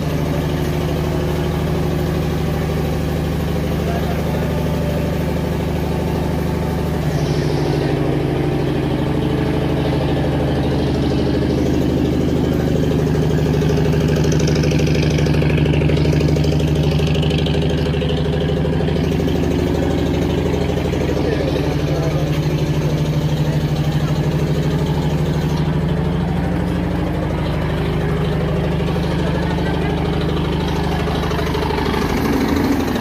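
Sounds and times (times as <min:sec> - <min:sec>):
locomotive engine idling: 0:00.0 - 0:33.0.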